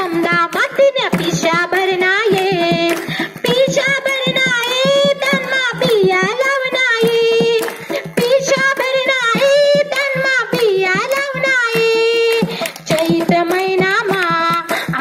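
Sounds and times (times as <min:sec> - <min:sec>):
quick percussion beat: 0:00.0 - 0:15.0.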